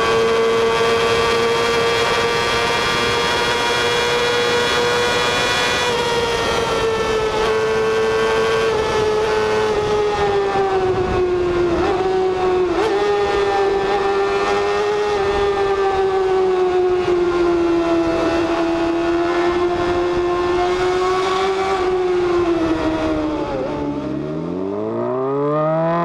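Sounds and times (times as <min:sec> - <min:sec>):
wind noise: 0:00.0 - 0:24.2
motorcycle engine at high revs: 0:00.0 - 0:26.0.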